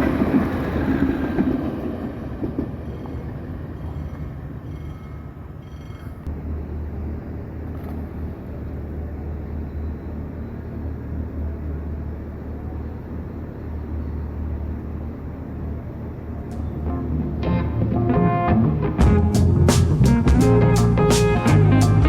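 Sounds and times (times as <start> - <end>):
vehicle rumbling: 0.0 - 22.0.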